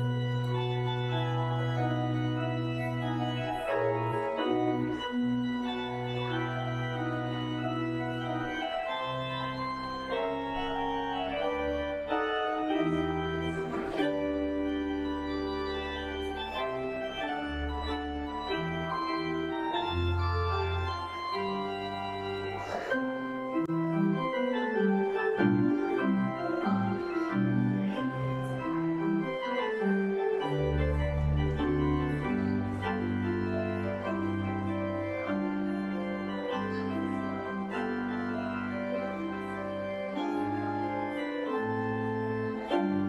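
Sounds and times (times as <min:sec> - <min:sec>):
church organ playing: 0:00.0 - 0:43.0.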